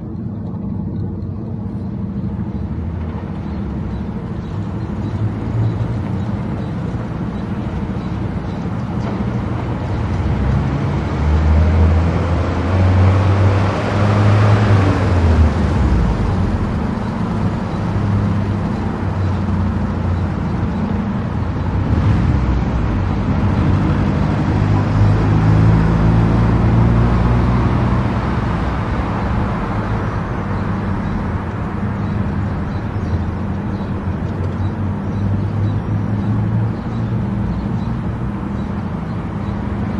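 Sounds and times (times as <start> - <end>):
car engine drone: 0.0 - 39.9
tyre road noise: 0.0 - 39.9.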